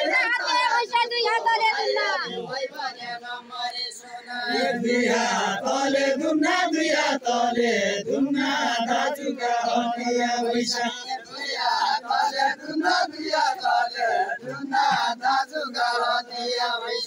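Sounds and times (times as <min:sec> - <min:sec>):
men singing folk song together: 0:02.0 - 0:17.0.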